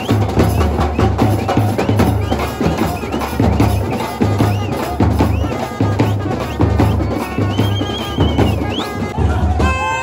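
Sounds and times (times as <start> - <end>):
music with heavy drum beat: 0.0 - 10.0.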